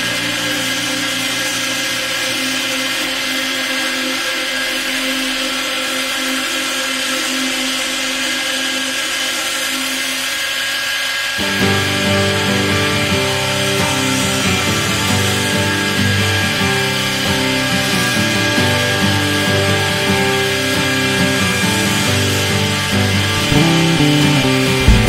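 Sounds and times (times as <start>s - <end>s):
belt grinder whirring: 0.0s - 25.0s.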